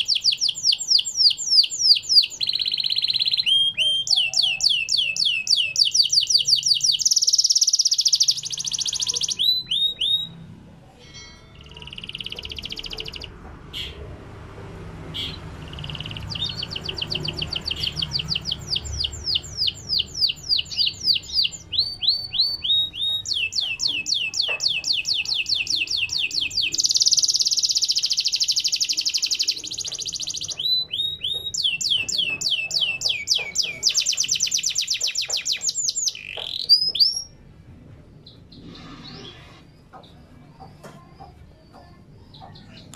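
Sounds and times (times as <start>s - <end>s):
canary singing trills: 0.0s - 14.1s, 15.1s - 42.9s.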